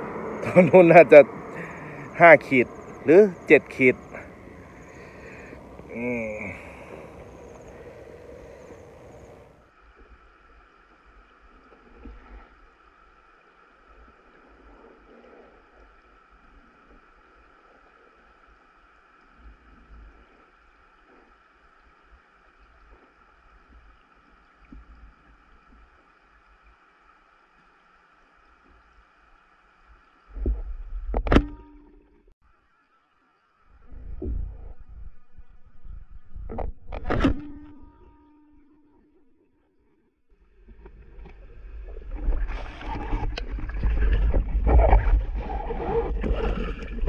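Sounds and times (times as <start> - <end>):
underwater water movement: 0.0 - 32.3, 33.8 - 47.0.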